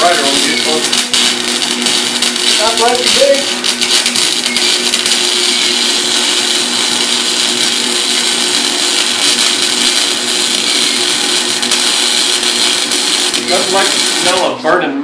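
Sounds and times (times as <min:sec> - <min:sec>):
welding arc sizzling: 0:00.0 - 0:14.7
welder low hum: 0:00.0 - 0:15.0.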